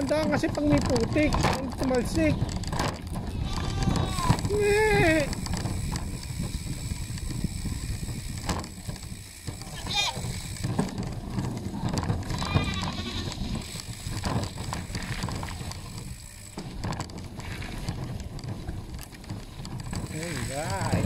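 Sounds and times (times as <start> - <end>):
bicycle rumbling over dirt: 0.0 - 21.0.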